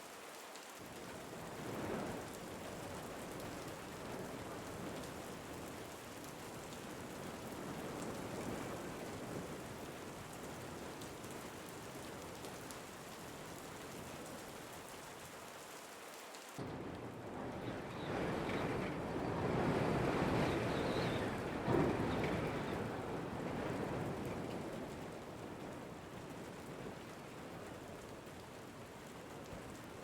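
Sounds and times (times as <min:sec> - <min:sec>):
steady rain falling: 0:00.0 - 0:30.0
raindrops ticking close by: 0:00.2 - 0:30.0.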